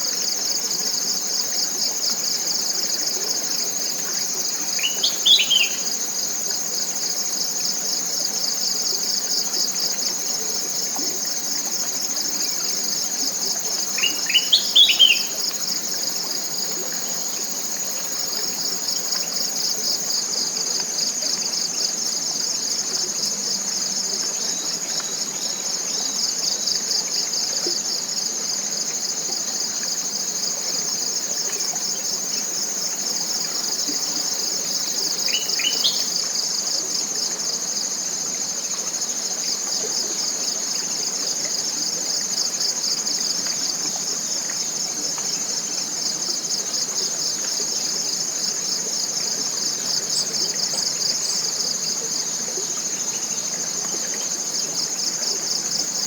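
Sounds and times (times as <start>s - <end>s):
insects trilling chorus: 0.0s - 56.0s.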